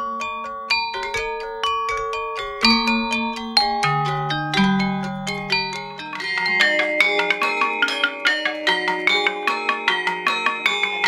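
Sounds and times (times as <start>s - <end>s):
gamelan mallet keys ringing: 0.0s - 11.0s.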